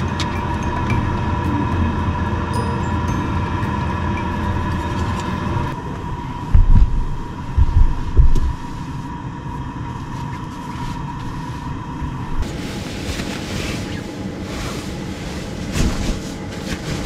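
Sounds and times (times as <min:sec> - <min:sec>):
steady hum with high whine: 0:00.0 - 0:17.0.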